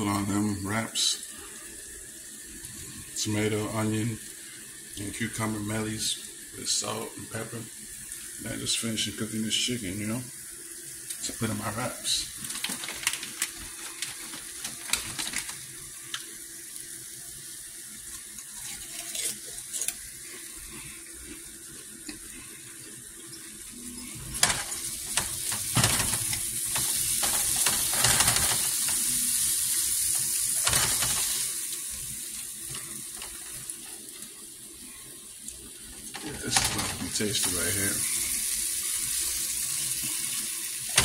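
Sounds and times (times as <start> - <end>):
chicken sizzling in a frying pan: 0.0 - 41.0.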